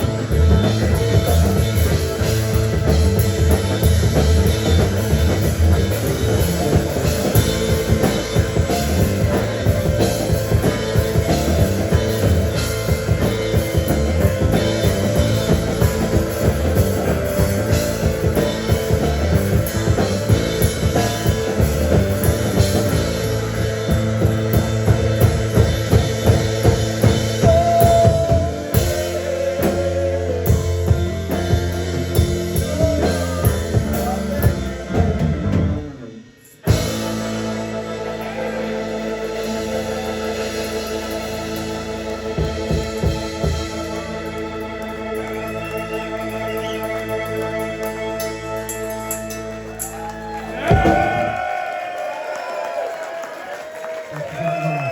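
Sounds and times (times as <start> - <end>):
drum kit beat: 0.0 - 45.6, 47.4 - 52.8
bass and guitar: 0.0 - 52.8.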